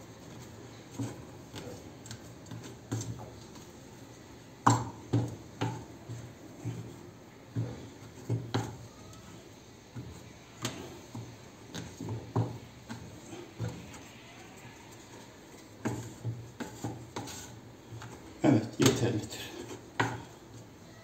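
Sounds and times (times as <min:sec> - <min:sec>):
wooden spoon scraping a frying pan: 0:00.0 - 0:20.8.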